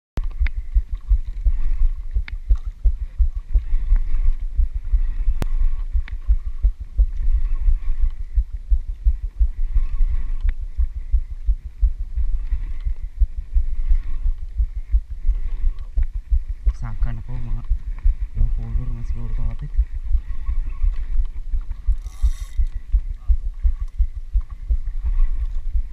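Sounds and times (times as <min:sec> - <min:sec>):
faint whir: 0:00.2 - 0:25.9
wind buffeting microphone: 0:00.2 - 0:25.9.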